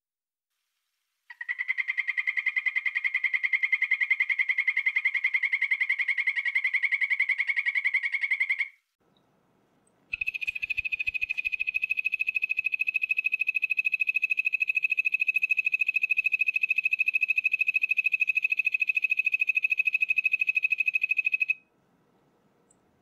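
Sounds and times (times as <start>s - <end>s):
frog trilling: 1.3s - 8.8s, 10.1s - 21.6s.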